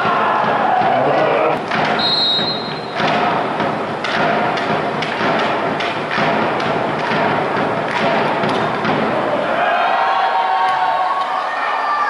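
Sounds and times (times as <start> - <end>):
crowd noise: 0.0 - 5.8, 6.5 - 12.0.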